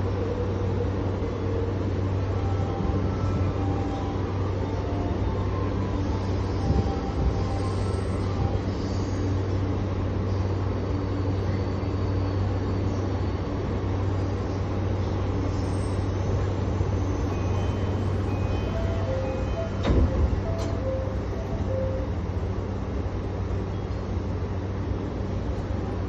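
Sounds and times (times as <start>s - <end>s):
train car hum and running noise: 0.0s - 26.0s.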